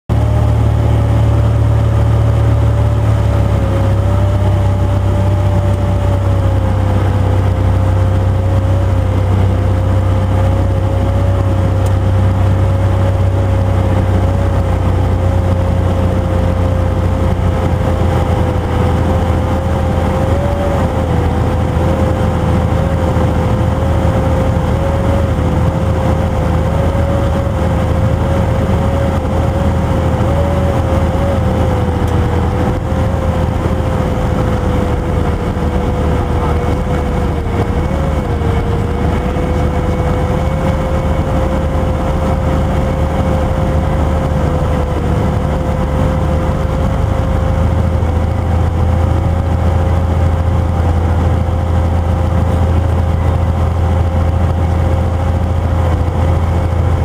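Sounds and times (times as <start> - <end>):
airplane engine droning in cabin: 0.1 - 57.0.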